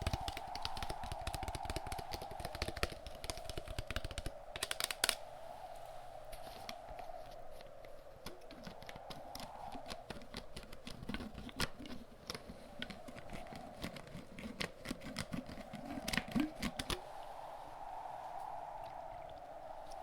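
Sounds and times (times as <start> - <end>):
steady wind: 0.0 - 20.0.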